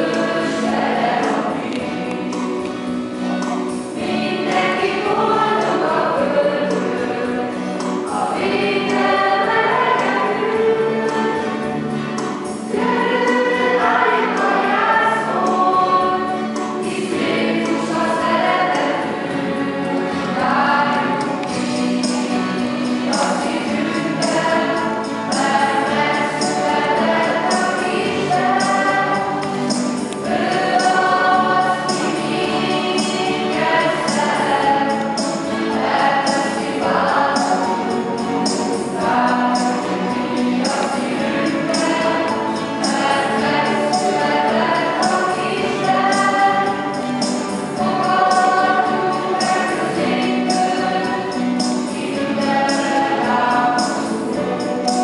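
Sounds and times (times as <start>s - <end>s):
choir singing in a church: 0.0s - 55.0s.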